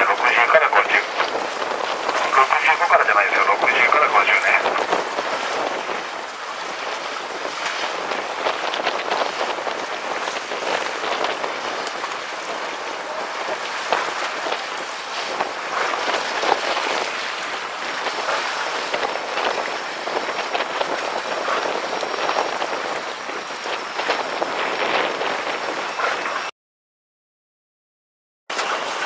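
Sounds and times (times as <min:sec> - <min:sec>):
water splashing against boat hull: 0:00.0 - 0:26.5.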